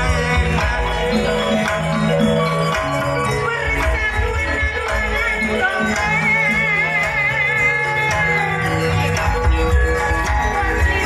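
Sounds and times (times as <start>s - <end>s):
gamelan ensemble playing: 0.0s - 11.0s.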